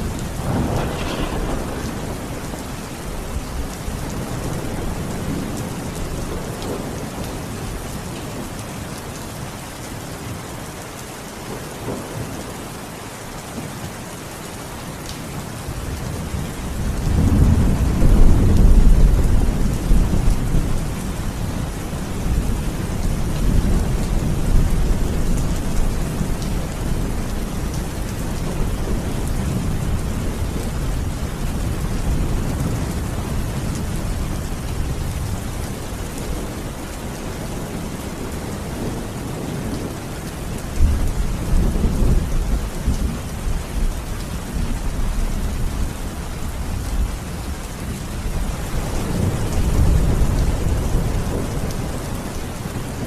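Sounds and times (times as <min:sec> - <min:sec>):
low rolling thunder: 0:00.0 - 0:08.5, 0:15.7 - 0:53.0
heavy rain: 0:00.0 - 0:53.0.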